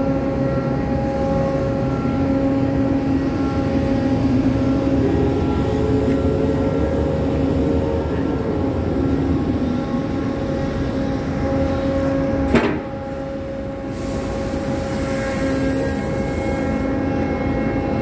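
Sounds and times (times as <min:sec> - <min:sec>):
crane machinery droning hum: 0:00.0 - 0:18.0.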